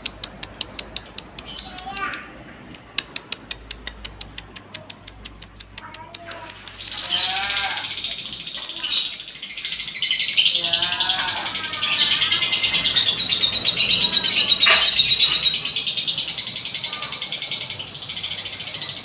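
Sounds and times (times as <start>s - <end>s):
bird chattering trill: 3.0s - 19.0s.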